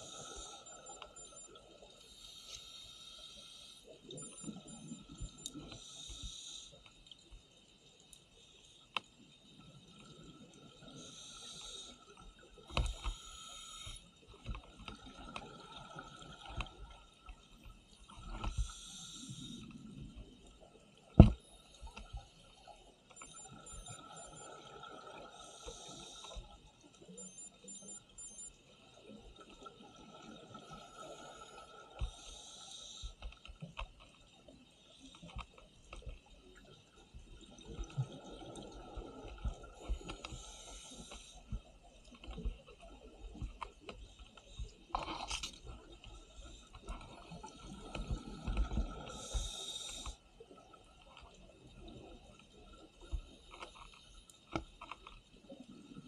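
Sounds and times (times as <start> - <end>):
faint steady tone: 0.0 - 56.0.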